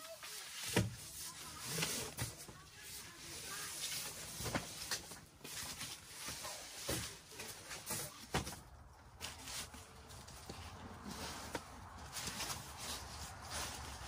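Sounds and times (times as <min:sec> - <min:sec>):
cardboard rustling and scraping: 0:00.0 - 0:14.0.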